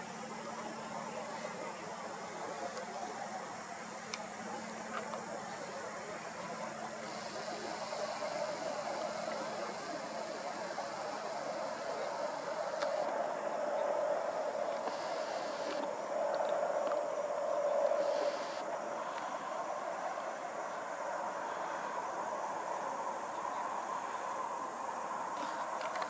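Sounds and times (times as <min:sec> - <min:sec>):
faint high steady tone: 0:00.0 - 0:16.1, 0:17.1 - 0:22.0
insects droning: 0:00.0 - 0:26.0.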